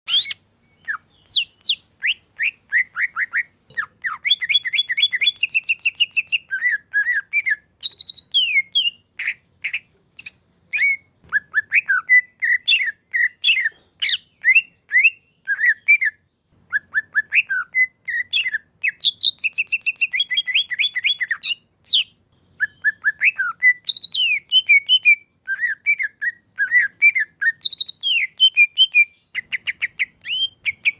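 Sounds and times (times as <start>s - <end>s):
bird singing chirps and trills: 0.1s - 30.9s.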